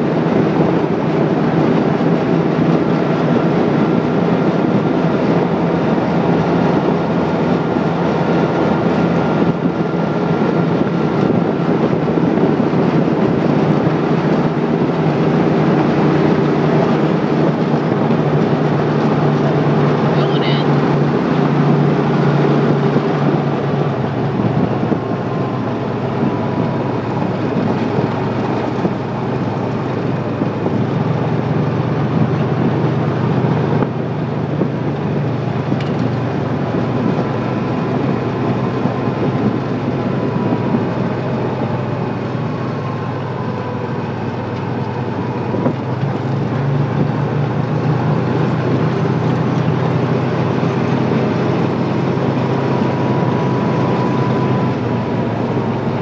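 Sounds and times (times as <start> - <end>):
engine hum: 0.0 - 56.0
tyre and road noise: 0.0 - 56.0.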